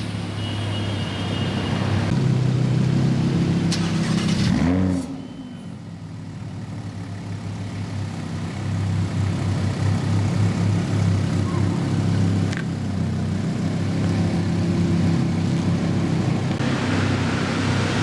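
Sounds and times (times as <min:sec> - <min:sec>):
another car engine: 0:01.4 - 0:18.0.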